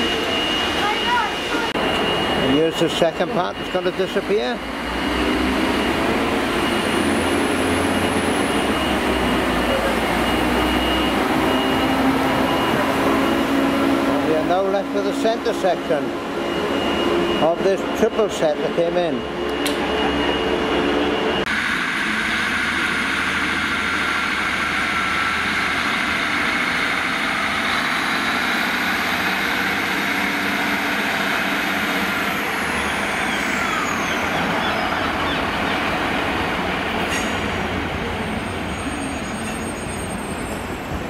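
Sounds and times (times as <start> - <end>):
diesel train engine: 0.0 - 41.0
falling whine: 0.0 - 41.0
wheel and rail noise: 0.0 - 41.0.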